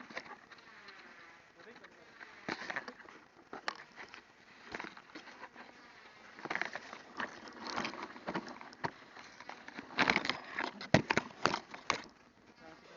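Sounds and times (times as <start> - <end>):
rustling and scraping crackles: 0.0 - 12.9.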